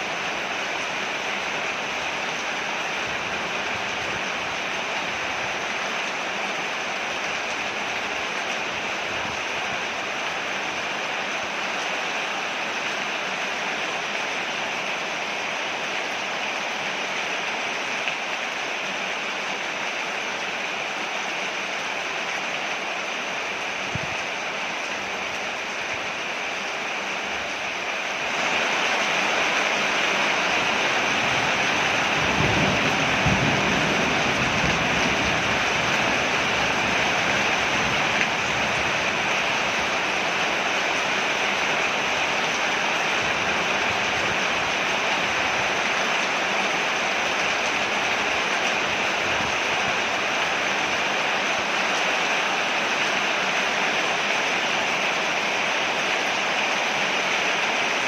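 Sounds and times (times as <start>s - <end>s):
rain falling on porch: 0.0s - 58.0s.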